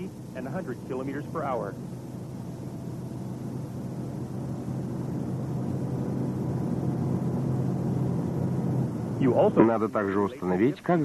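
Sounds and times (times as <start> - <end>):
car road noise drone: 0.0 - 11.0.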